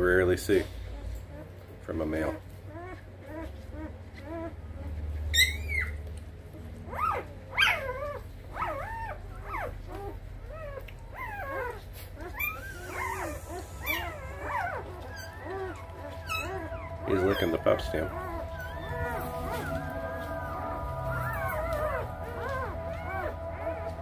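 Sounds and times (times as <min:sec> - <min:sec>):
puppies whimpering: 0:00.0 - 0:24.0
puppy squealing: 0:02.2 - 0:06.1, 0:06.8 - 0:24.0.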